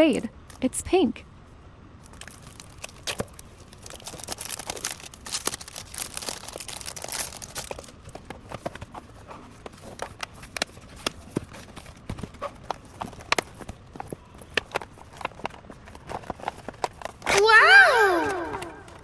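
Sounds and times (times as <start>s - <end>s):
packaging rustling: 2.0s - 17.4s
cardboard and hard parts clicking: 2.1s - 17.4s.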